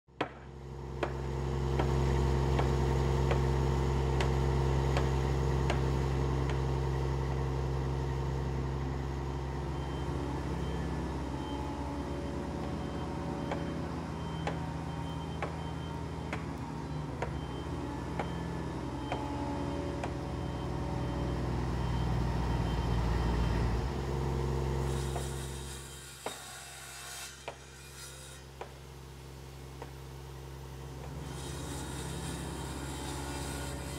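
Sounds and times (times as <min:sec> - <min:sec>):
diesel engine running: 0:00.2 - 0:26.2, 0:28.5 - 0:33.9.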